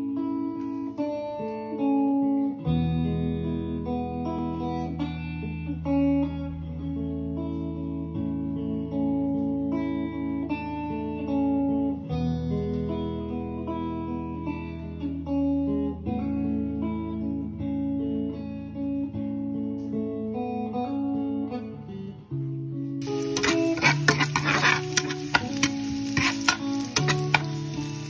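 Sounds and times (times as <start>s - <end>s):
plucked guitar music: 0.0s - 28.0s.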